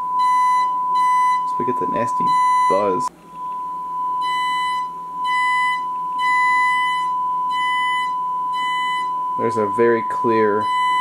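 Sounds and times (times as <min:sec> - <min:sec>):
distortion buzz: 0:00.0 - 0:11.0
sine-wave test tone: 0:00.0 - 0:11.0.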